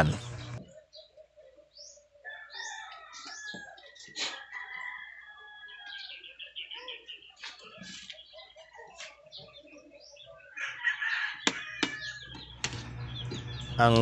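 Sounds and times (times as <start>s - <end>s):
birds calling and chirping: 0.0s - 14.0s.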